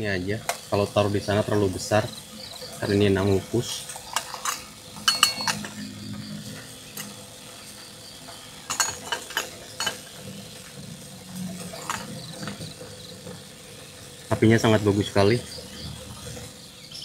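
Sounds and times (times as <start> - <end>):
wood fire popping: 0.0 - 17.0.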